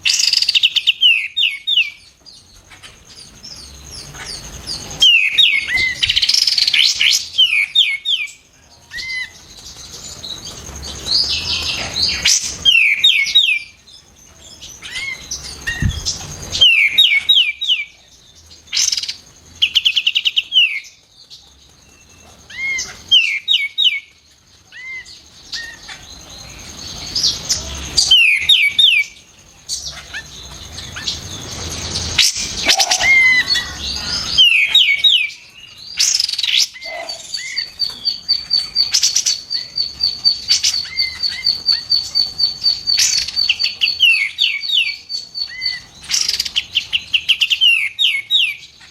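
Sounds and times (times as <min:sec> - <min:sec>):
bulbul singing whistled notes: 0:00.0 - 0:48.9.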